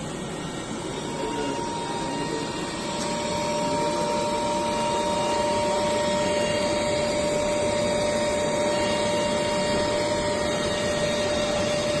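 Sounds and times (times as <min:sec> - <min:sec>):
power supply whirring: 0:00.0 - 0:12.0
steady whining tones: 0:00.0 - 0:12.0.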